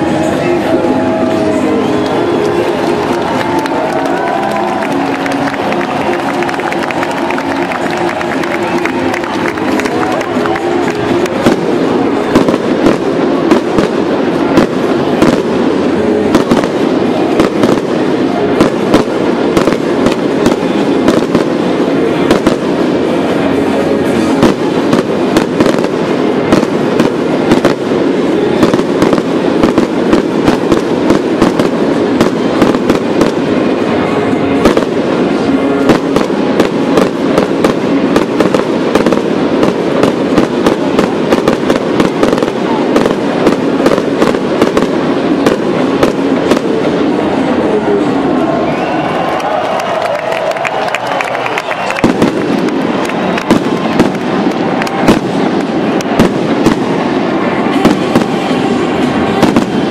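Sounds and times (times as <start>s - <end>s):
fireworks bangs and crackles: 0.0s - 59.9s
steady background din: 0.0s - 59.9s.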